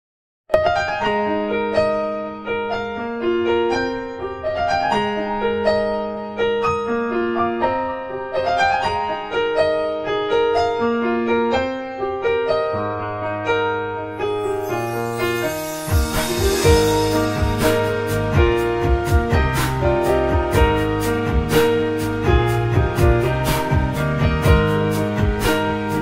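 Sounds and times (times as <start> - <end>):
gentle piano melody: 0.5 - 26.0.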